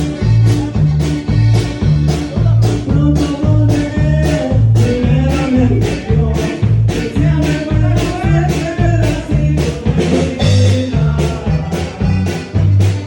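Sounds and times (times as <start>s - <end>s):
band music with melody lines: 0.0s - 13.0s
steady bass beat: 0.0s - 13.0s.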